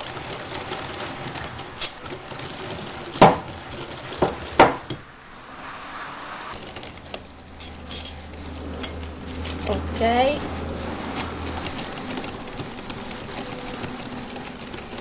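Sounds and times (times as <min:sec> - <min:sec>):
whisk stirring in glass bowl: 0:00.0 - 0:05.0, 0:06.6 - 0:15.0.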